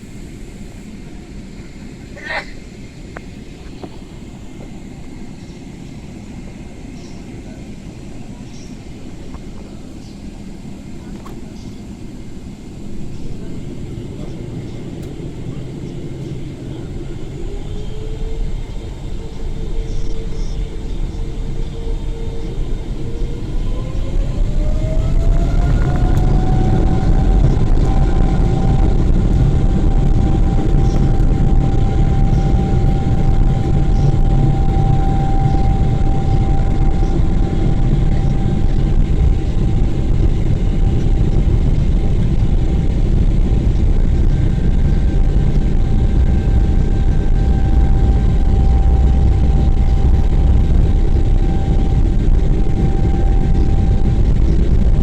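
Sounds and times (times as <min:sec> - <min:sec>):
jet engine rumble: 0:00.0 - 0:55.0
jet engine whine: 0:00.0 - 0:55.0.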